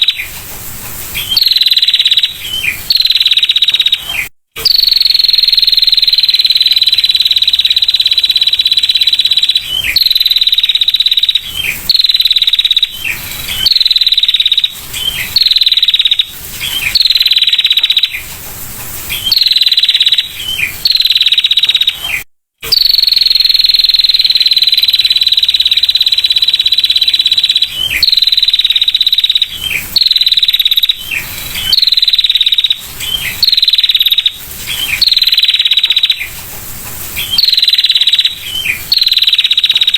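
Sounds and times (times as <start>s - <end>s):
bird buzzy trill call: 0.0s - 0.4s, 1.1s - 18.3s, 19.0s - 36.4s, 37.1s - 39.9s.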